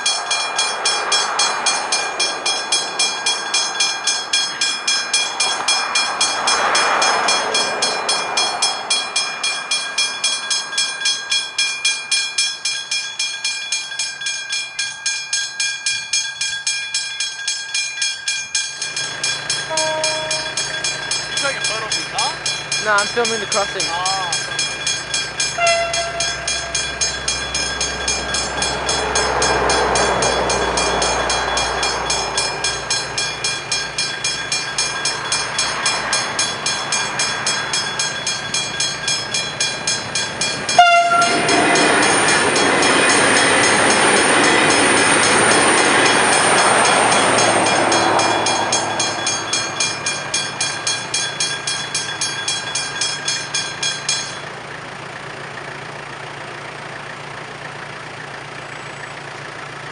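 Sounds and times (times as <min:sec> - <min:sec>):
level crossing bells ringing: 0:00.0 - 0:54.6
train passing: 0:00.0 - 0:59.9.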